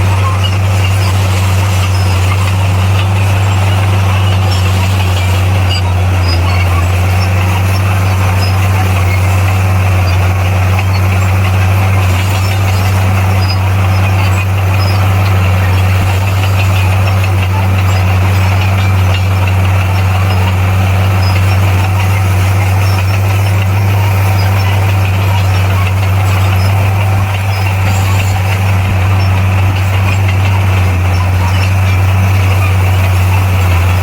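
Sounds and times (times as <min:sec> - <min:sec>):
diesel engine running steadily: 0:00.0 - 0:34.0.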